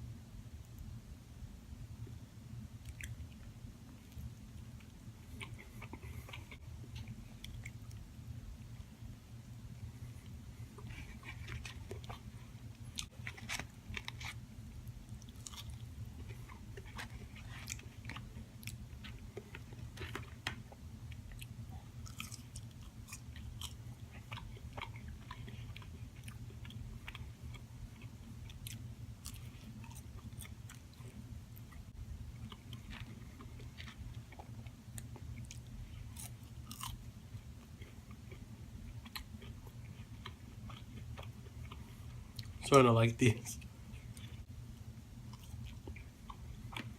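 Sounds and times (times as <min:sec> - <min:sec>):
steady low hum: 0:00.0 - 0:46.9
crunchy chewing of food: 0:02.6 - 0:42.6, 0:43.6 - 0:46.9.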